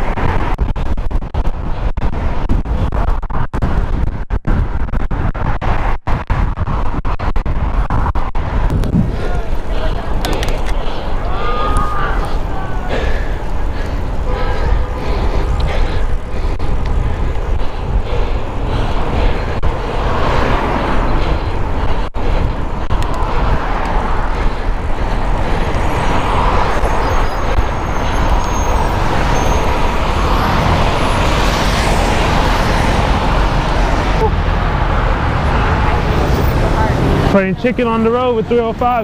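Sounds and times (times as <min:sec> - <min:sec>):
wind rushing over microphone: 0:00.0 - 0:39.0
passing motor traffic: 0:05.2 - 0:39.0.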